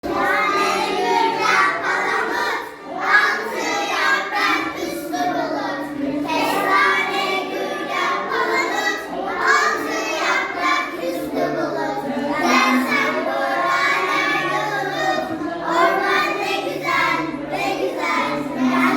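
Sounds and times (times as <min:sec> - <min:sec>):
children singing together: 0:00.0 - 0:18.9.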